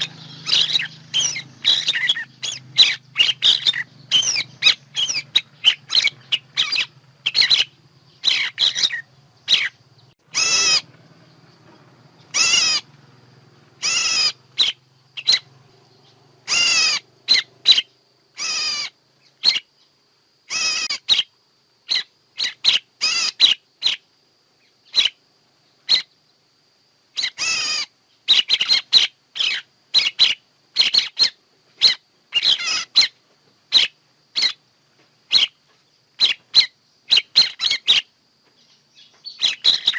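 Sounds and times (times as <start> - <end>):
bird chirps and wavering calls: 0.0 - 26.3, 27.1 - 34.7, 35.3 - 39.9.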